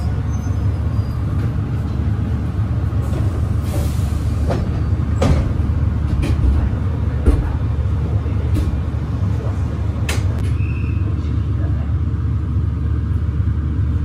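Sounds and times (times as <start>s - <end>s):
train interior rumble: 0.0s - 14.0s.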